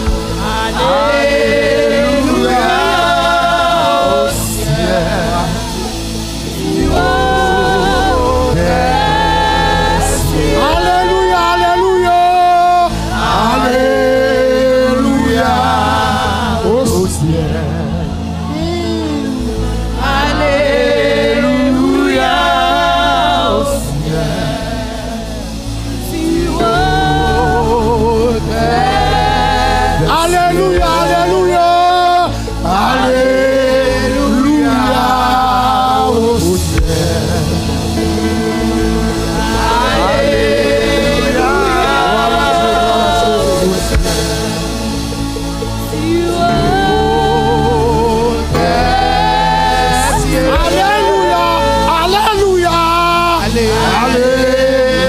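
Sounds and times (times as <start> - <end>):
instrumental backing: 0.0 - 55.0
singers holding wavering notes: 0.0 - 55.0.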